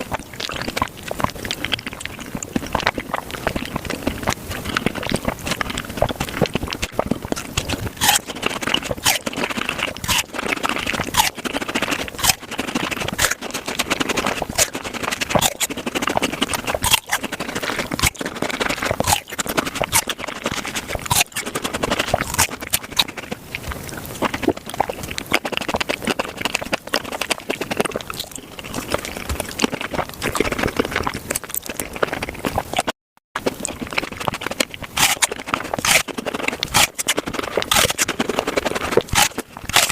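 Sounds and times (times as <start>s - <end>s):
crisp fruit bites and crunching: 0.0s - 39.9s
wet mouth clicks: 0.0s - 39.9s.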